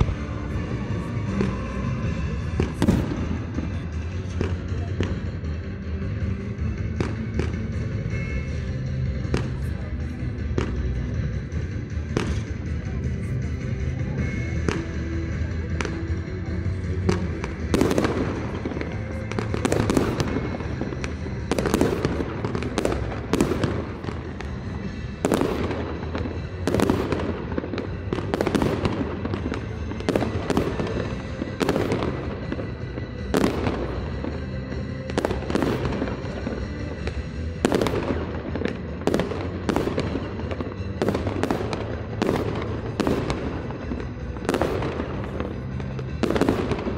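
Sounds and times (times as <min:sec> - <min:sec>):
fireworks bangs and crackles: 0:00.0 - 0:46.9
music over sound system: 0:00.0 - 0:46.9.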